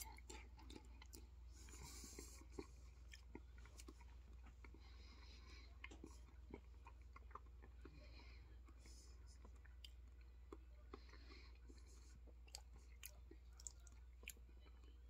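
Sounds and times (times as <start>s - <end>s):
chewing noodles: 0.0s - 15.0s
low steady hum: 0.0s - 15.0s.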